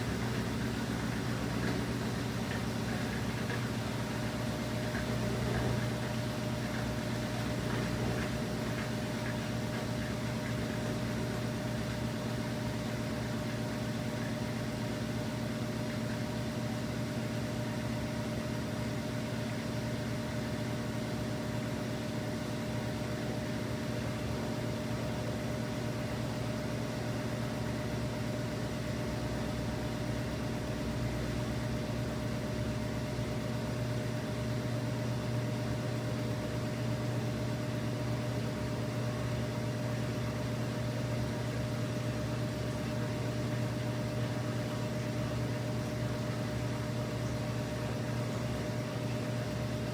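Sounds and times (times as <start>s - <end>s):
washing machine running: 0.0s - 49.9s.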